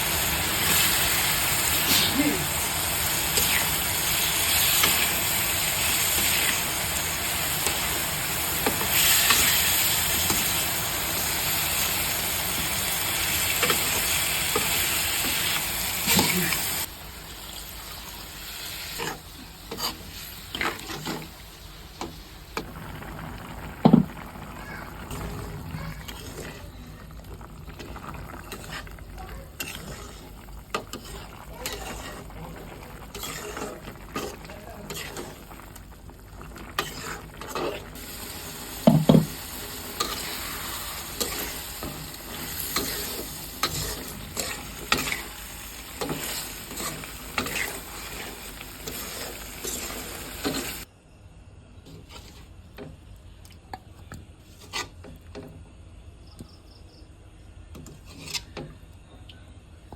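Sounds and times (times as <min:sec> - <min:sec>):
curry sizzling in a pan: 0:00.0 - 0:50.9.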